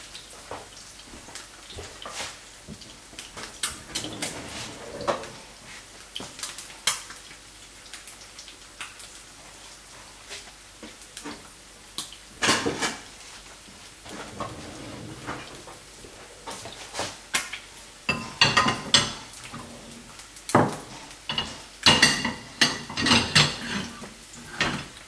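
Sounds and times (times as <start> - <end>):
eggs sizzling in oil: 0.0 - 3.9, 5.0 - 14.4, 15.5 - 25.0.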